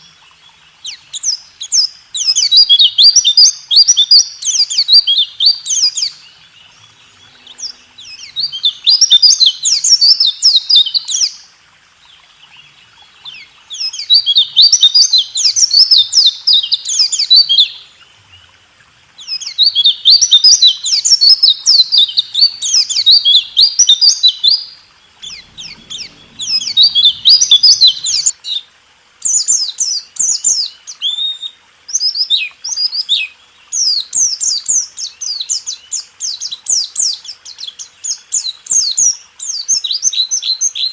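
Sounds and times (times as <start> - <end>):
bird rapid high twittering song: 0.0 - 40.9.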